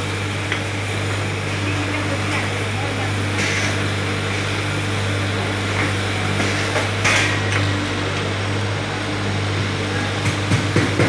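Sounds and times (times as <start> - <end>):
machinery humming: 0.0 - 11.0
workroom noise: 0.0 - 11.0.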